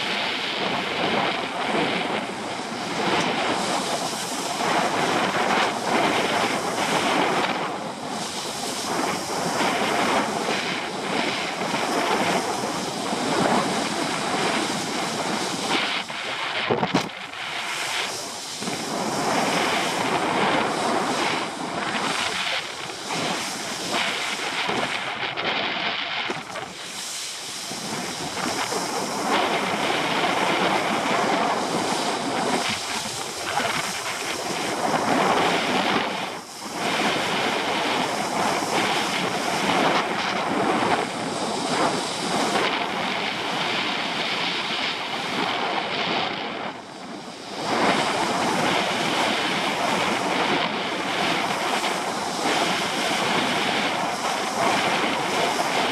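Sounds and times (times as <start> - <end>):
water spray under board: 0.0 - 46.0, 46.8 - 55.9
wind buffeting microphone: 0.0 - 55.9.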